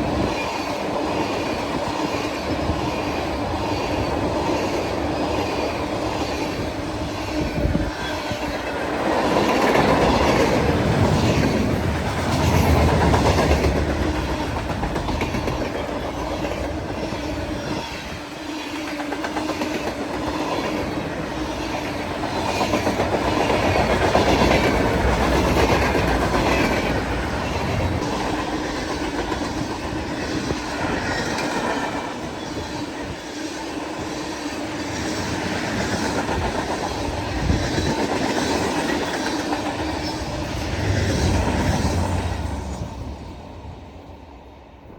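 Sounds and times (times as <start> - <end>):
train wheels clicking over rail joints: 0.0 - 42.4.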